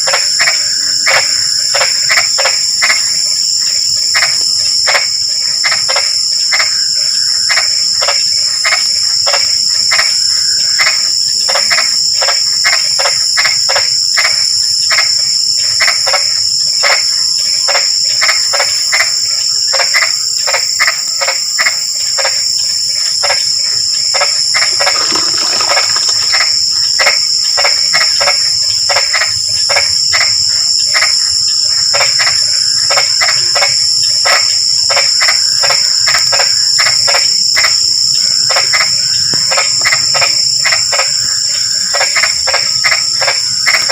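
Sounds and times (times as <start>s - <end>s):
frogs croaking: 0.0s - 43.9s
high-pitched insect trill: 0.0s - 43.9s.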